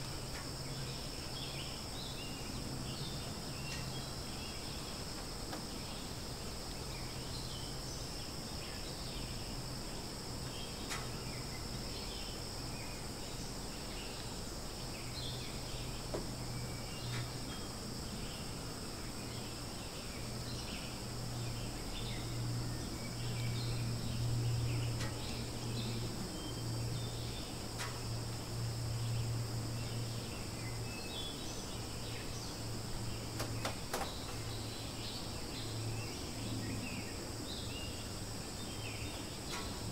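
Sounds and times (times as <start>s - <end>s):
insects droning: 0.0s - 39.9s
low steady hum: 0.0s - 39.9s.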